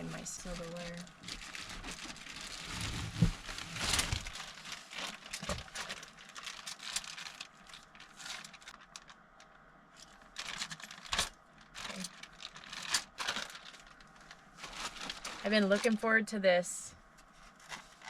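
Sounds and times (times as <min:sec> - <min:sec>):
plastic crinkling and rustling: 0:00.0 - 0:16.3, 0:17.2 - 0:18.0.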